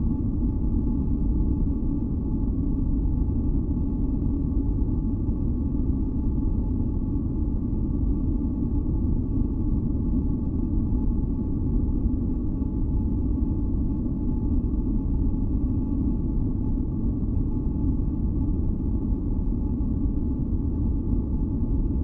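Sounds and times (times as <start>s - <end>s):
faint hum of thin tones: 0.0s - 22.0s.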